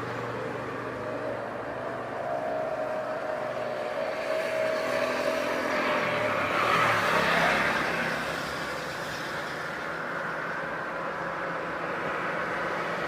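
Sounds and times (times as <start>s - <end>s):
jet airliner passing low: 0.0s - 13.0s.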